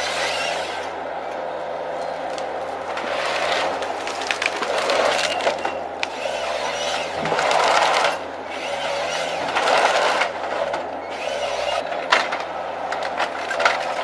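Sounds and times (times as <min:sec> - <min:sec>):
wood cracking and splintering: 0:02.3 - 0:14.0.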